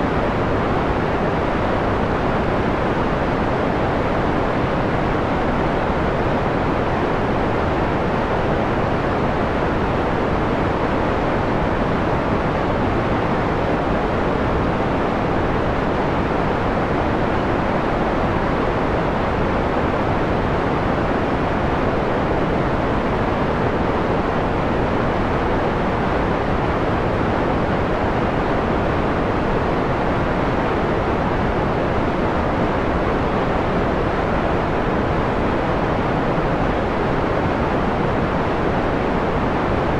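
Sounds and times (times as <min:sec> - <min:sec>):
filtered white noise rush: 0:00.0 - 0:39.9.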